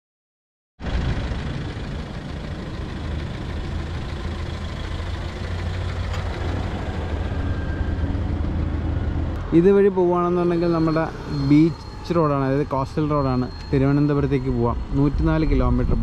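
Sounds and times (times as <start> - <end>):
engine idling: 0.8 - 16.0.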